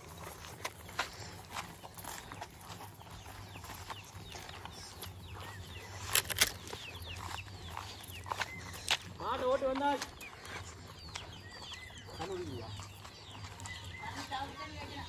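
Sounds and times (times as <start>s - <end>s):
birds chirping: 0.0s - 15.0s
footsteps crunching on dry ground: 0.0s - 15.0s.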